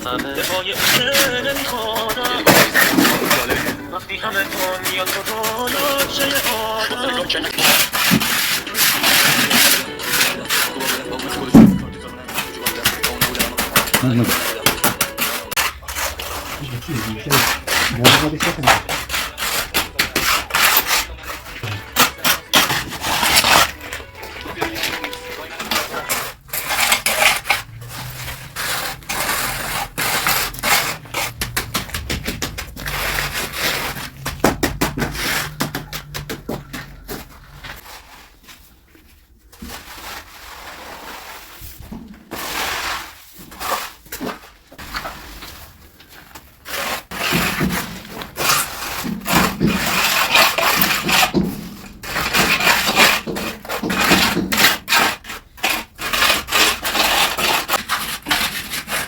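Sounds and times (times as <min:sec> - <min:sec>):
rough scraping on hard surface: 0:00.0 - 0:59.0.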